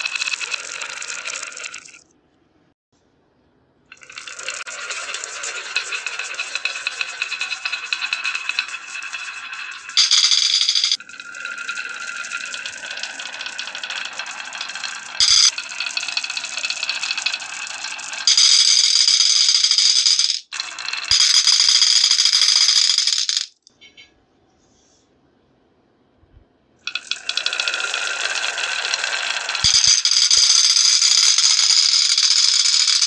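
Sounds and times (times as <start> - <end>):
marbles clinking into glass dish: 0.0 - 2.0, 3.9 - 23.6, 26.9 - 33.0
marbles rattling down wooden run: 0.0 - 2.0, 3.9 - 23.6, 26.9 - 33.0.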